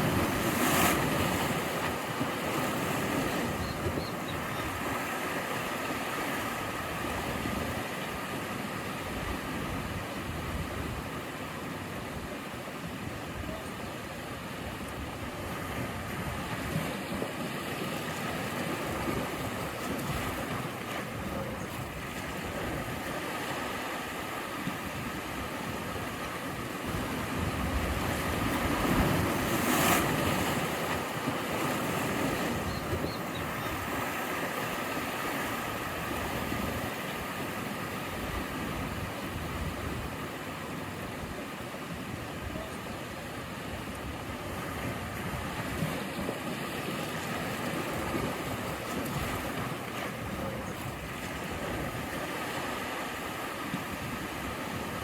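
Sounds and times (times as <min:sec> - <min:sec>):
ocean waves washing: 0:00.0 - 0:55.0.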